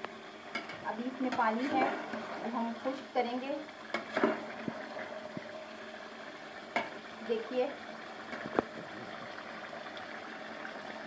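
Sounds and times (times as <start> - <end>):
masala frying and bubbling: 0.0 - 11.0.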